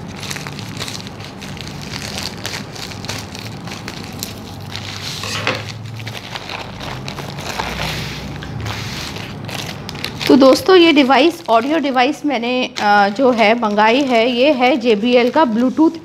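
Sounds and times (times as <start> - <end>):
plastic mailer crinkling: 0.0 - 16.0
plastic wrapping rustling: 0.0 - 16.0.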